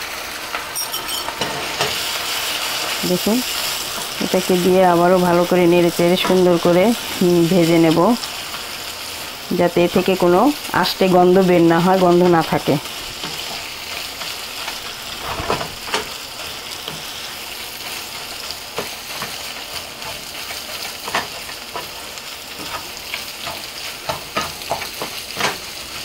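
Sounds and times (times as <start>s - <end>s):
fish roe sizzling in oil: 0.0s - 26.0s.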